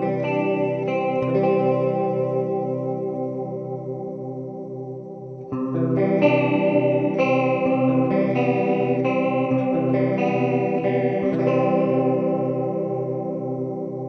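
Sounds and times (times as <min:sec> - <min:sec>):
electric guitar chords with chorus: 0:00.0 - 0:14.0.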